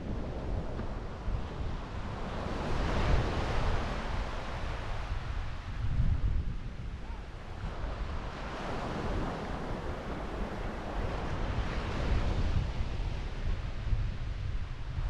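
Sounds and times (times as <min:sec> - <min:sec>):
waves breaking on beach: 0:00.0 - 0:05.8, 0:07.2 - 0:14.0
wind buffeting microphone: 0:00.0 - 0:15.0.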